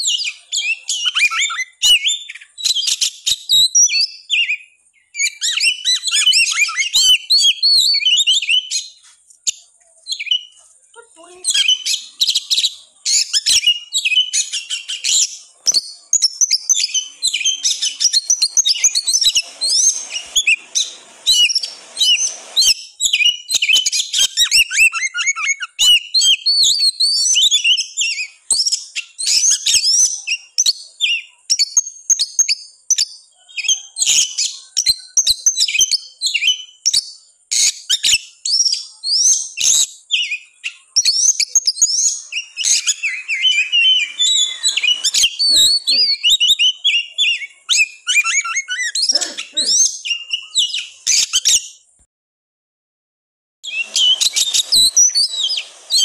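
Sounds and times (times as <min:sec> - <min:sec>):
songbird singing with whistles and chatter: 0:00.0 - 0:51.9, 0:53.6 - 0:56.0.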